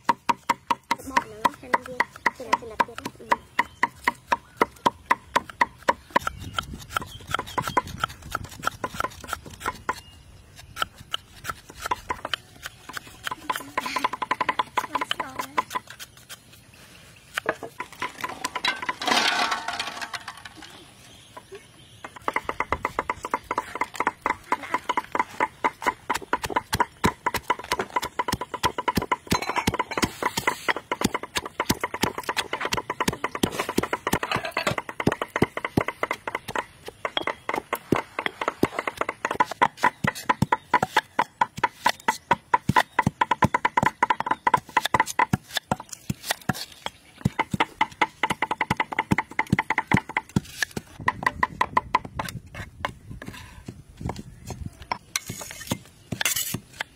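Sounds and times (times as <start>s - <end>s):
pestle pounding in stone mortar: 0.0s - 16.4s, 22.0s - 54.2s.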